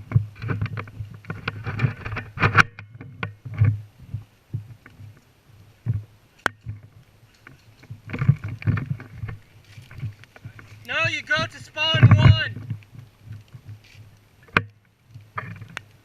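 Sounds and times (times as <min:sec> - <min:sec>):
rustling of gear and clothing: 0:00.0 - 0:16.0.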